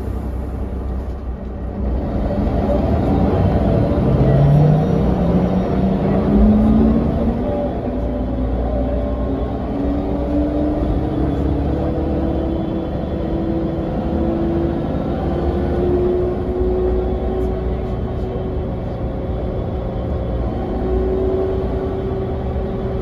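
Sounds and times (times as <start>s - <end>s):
bus diesel rumble: 0.0s - 23.0s.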